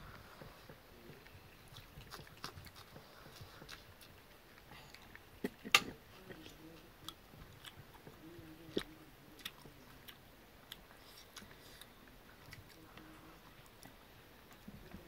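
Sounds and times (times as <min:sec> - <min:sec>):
chewing and wet mouth smacks: 0:01.2 - 0:15.0.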